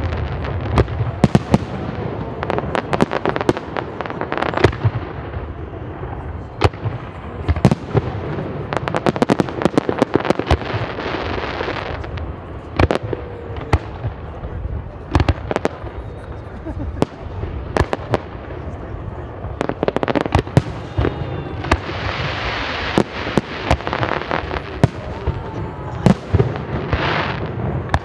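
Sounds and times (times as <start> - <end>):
firework stars crackling: 0.0 - 28.0.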